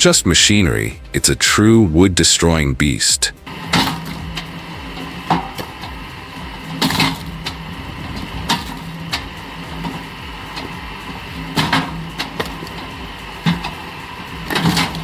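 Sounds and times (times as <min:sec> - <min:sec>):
log-sawing machine running: 0:00.0 - 0:15.0
low hum: 0:00.0 - 0:15.0
logs clattering: 0:03.0 - 0:15.0.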